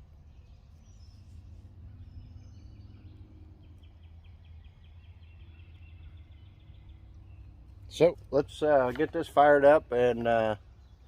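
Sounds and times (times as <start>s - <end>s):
steady low hum: 0.0s - 11.0s
bird calls: 0.2s - 11.0s.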